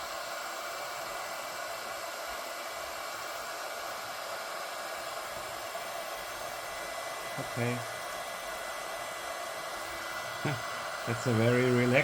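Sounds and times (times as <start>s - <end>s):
heat gun blowing hiss: 0.0s - 12.0s.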